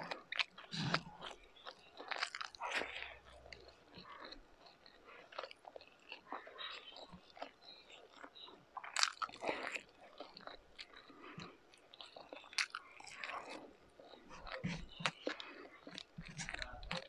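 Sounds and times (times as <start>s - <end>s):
person chewing with mouth smacks: 0.0s - 17.0s.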